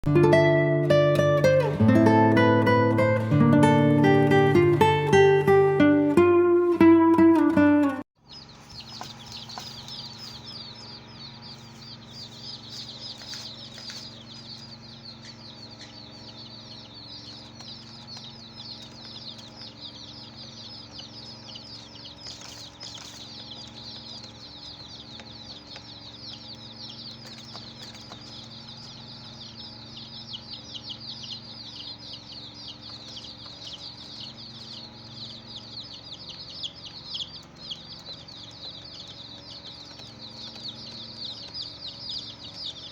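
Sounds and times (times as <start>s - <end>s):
baby chicks peeping: 0.0s - 42.9s.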